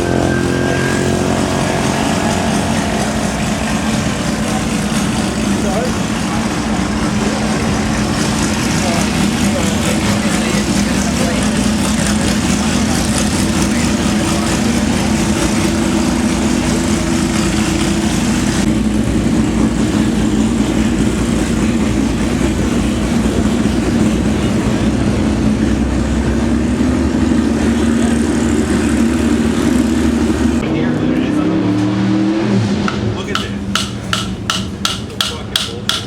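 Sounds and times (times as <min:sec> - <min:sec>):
broad rushing noise: 0:00.0 - 0:36.0
vehicle engine running steadily: 0:00.0 - 0:36.0.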